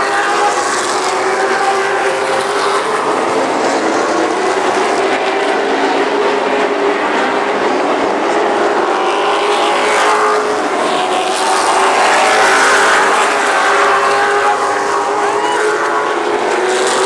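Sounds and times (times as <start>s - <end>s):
race car engines roaring: 0.0s - 17.0s.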